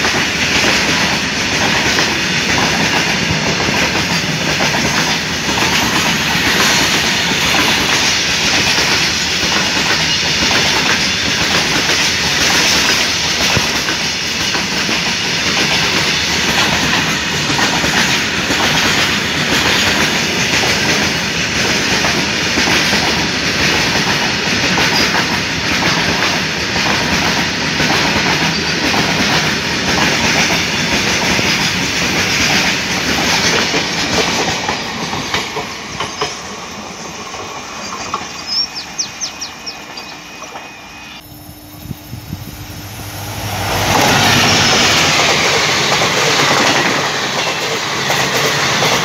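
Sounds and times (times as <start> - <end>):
train wheels clattering over rail joints: 0.0 - 39.5, 43.5 - 49.0.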